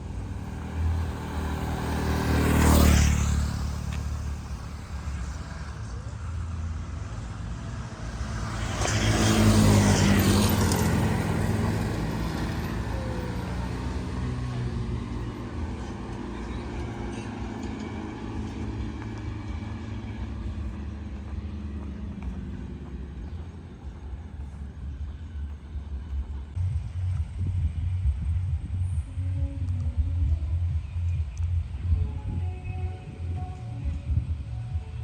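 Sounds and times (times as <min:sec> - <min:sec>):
low engine rumble: 0:00.0 - 0:35.0
vehicles passing close by: 0:00.0 - 0:35.0.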